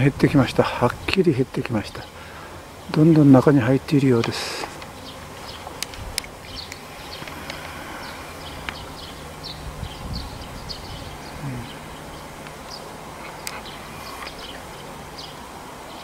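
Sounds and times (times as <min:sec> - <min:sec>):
bees humming: 0:00.0 - 0:16.0
small birds chirping: 0:00.0 - 0:16.0.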